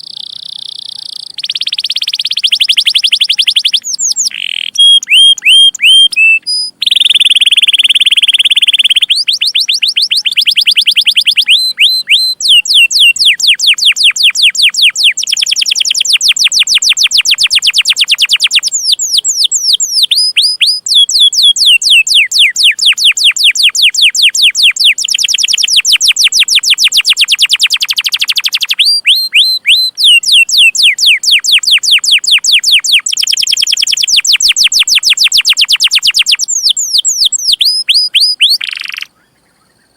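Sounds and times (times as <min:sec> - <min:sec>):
canary singing: 0:00.0 - 0:39.8.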